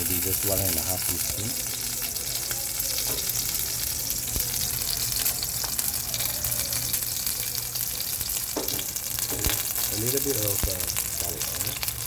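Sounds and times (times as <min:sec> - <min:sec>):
fat sizzling in oil: 0:00.0 - 0:12.0.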